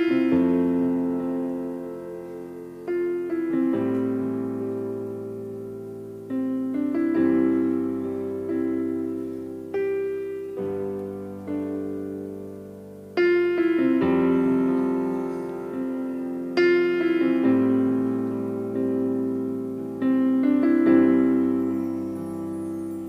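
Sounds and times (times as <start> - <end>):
slow gentle piano chords: 0.0 - 23.0.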